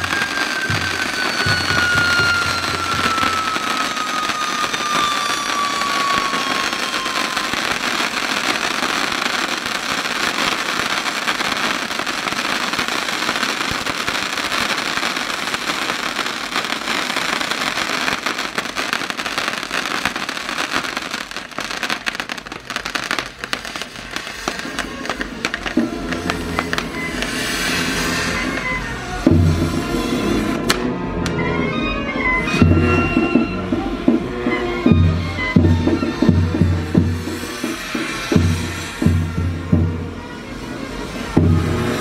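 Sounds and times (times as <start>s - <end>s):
fireworks crackling and fizzing: 0.0s - 31.4s, 32.3s - 42.0s
firework whistle falling in pitch: 0.0s - 42.0s.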